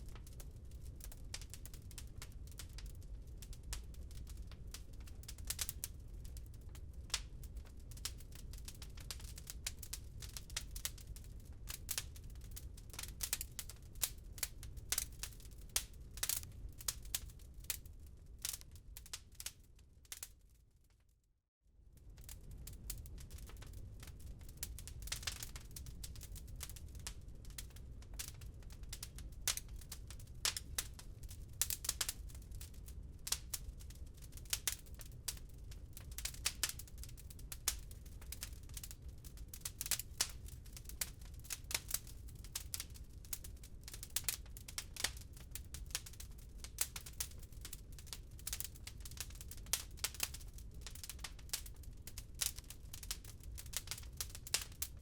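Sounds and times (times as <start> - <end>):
wood fire crackling: 0.0 - 20.9, 21.9 - 55.0.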